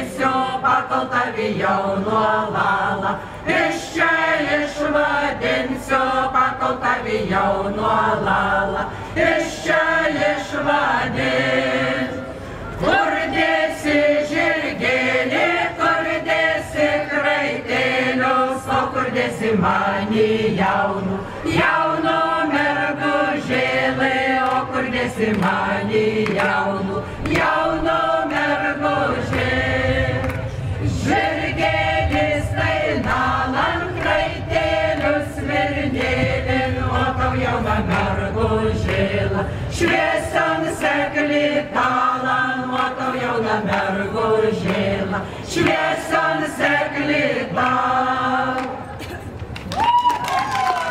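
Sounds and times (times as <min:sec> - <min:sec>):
choir singing folk song: 0:00.0 - 0:49.0.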